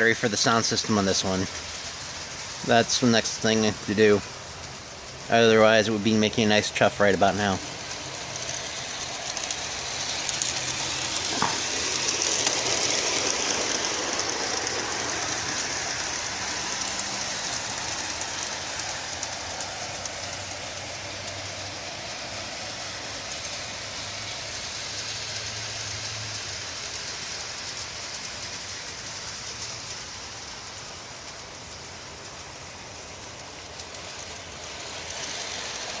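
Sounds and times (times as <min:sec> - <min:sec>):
model train wheels rattling: 0:00.0 - 0:36.0
faint motor hum: 0:00.6 - 0:36.0.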